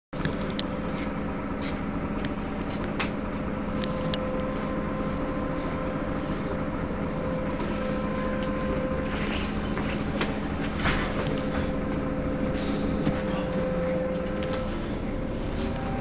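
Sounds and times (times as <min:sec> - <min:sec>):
bus engine idling: 0:00.2 - 0:16.0.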